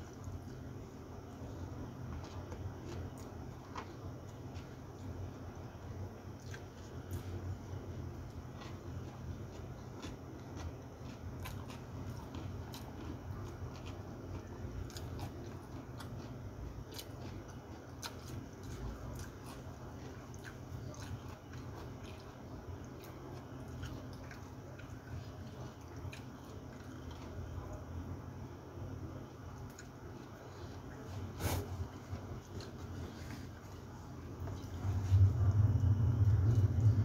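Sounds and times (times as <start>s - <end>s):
person chewing and eating: 0.0s - 27.9s, 29.5s - 37.0s
steady low hum: 0.0s - 37.0s.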